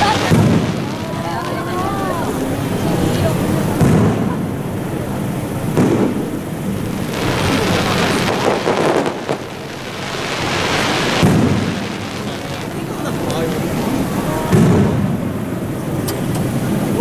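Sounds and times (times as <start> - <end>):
fireworks shells booming: 0.0 - 16.1
fireworks crackling: 0.0 - 17.0.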